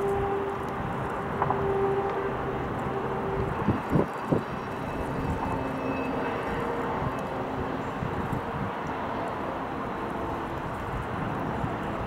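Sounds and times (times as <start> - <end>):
distant city traffic hum: 0.0 - 12.0.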